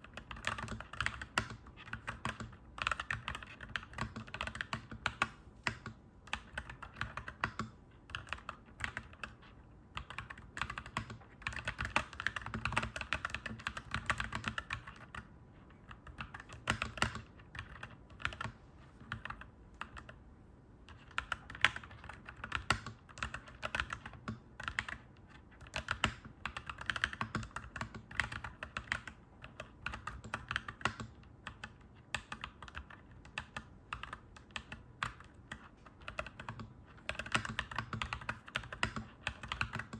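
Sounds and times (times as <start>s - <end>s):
mechanical keyboard typing: 0.0s - 20.2s, 20.9s - 39.9s.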